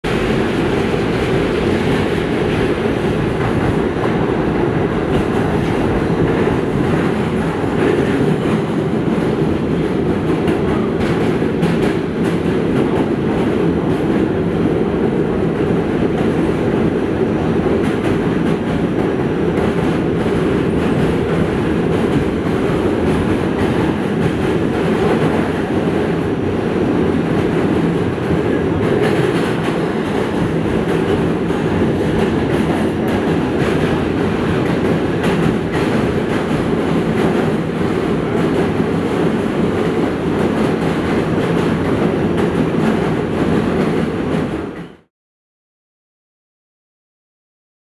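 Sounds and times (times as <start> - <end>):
train wheels rumbling on rails: 0.0 - 45.1.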